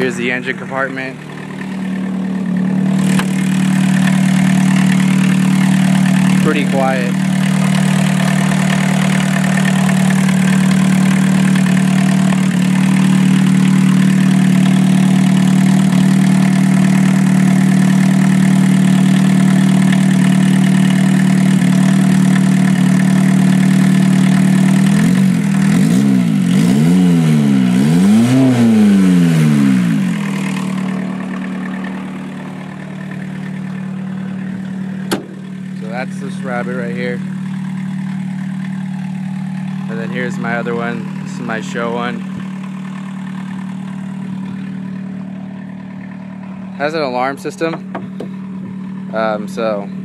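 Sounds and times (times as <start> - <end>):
diesel engine idling and revving: 0.0 - 50.0.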